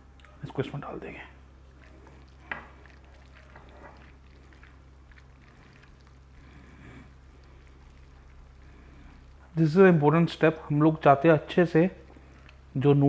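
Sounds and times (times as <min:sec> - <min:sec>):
hand squishing noodles: 0:00.0 - 0:13.0.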